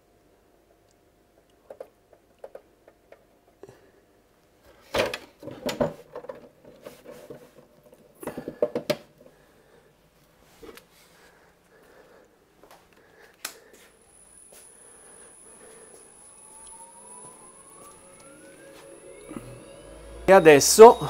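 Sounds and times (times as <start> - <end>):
faint steady whine: 0.0 - 21.0.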